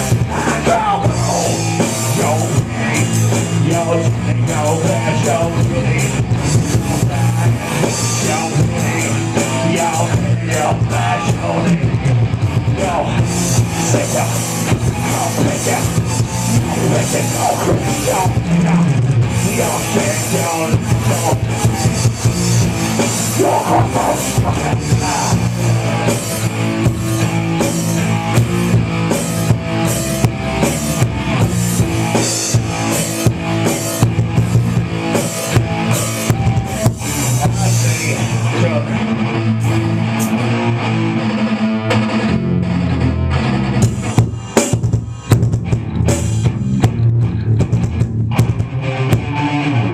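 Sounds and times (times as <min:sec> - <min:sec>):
hard rock band playing: 0:00.0 - 0:49.9.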